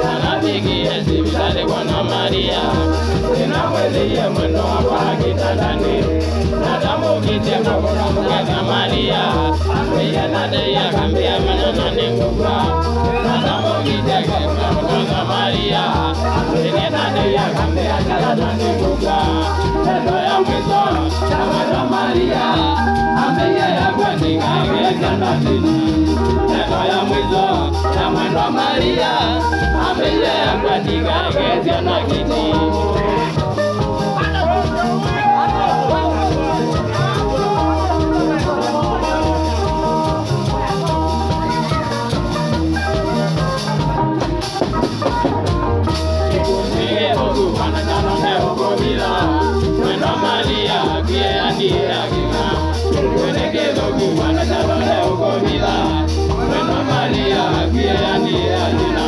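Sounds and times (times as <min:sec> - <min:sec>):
man singing into a microphone: 0:00.0 - 0:41.7, 0:46.2 - 0:59.0
bass line: 0:00.0 - 0:59.0
electric guitar: 0:00.0 - 0:59.0
live band music: 0:00.0 - 0:59.0
steady drum beat: 0:00.0 - 0:59.0.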